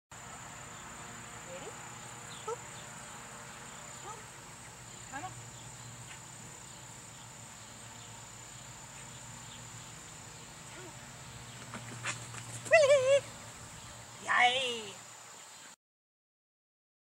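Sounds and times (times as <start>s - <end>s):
insects droning: 0.2s - 15.8s.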